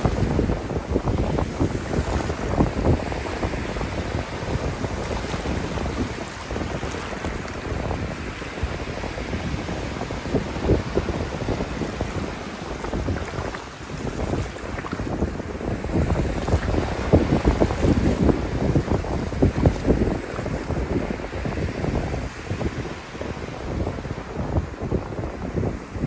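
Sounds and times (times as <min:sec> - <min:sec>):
surf washing over sand beach: 0:00.0 - 0:26.0
wind buffeting microphone: 0:00.0 - 0:26.0.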